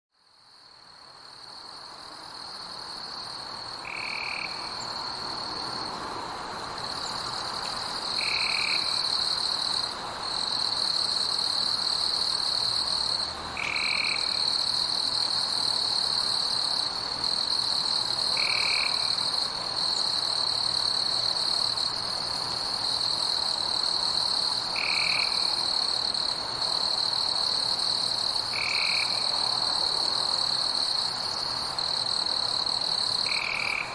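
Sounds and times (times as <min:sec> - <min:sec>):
insects trilling: 0:01.1 - 0:33.9.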